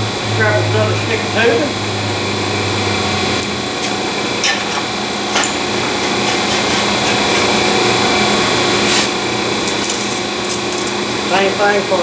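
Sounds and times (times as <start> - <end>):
shop machine hum: 0.0 - 12.0.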